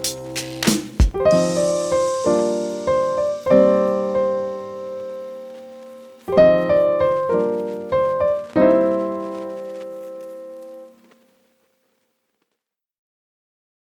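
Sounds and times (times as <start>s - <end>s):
piano chords: 0.0s - 11.2s.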